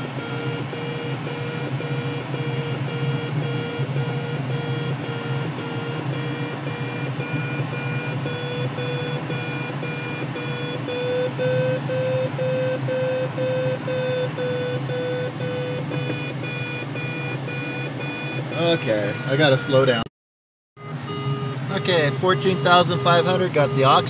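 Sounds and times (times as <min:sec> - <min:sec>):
variometer beeping: 0:00.0 - 0:20.1, 0:20.8 - 0:24.0.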